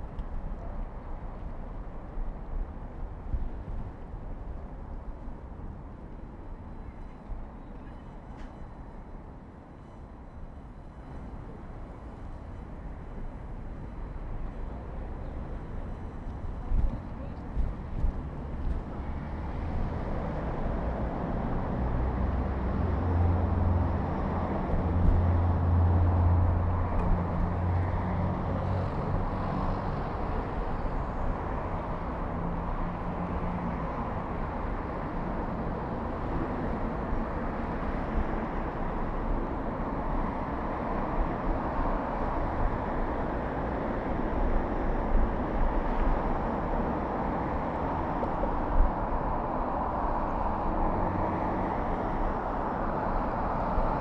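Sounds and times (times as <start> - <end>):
traffic rushing: 8.1 - 54.0.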